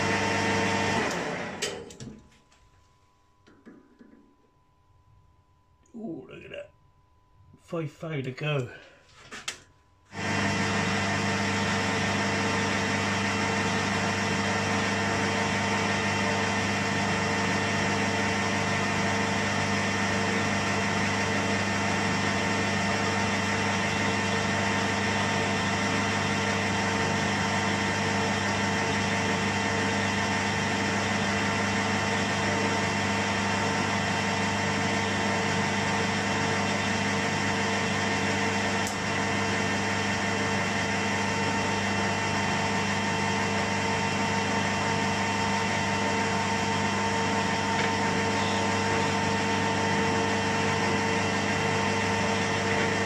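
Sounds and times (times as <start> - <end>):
metal lathe humming: 10.1 - 53.0.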